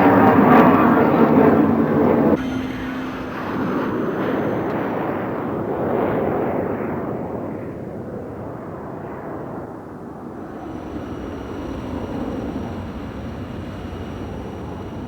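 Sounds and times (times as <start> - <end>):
jet flying past: 0.0 - 9.5, 10.2 - 15.0.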